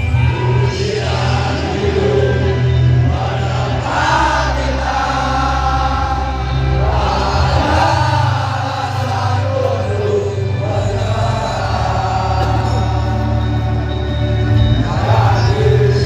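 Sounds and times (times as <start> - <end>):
crowd singing together: 0.0 - 16.0.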